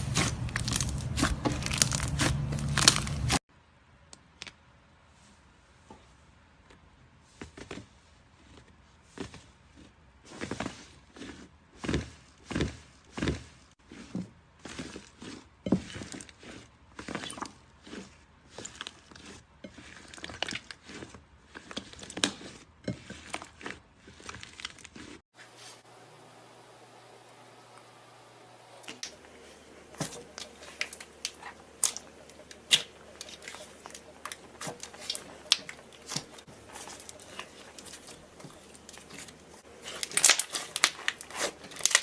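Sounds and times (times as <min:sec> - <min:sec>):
slime squelching: 0:00.0 - 0:03.5, 0:07.5 - 0:25.2, 0:28.8 - 0:42.0.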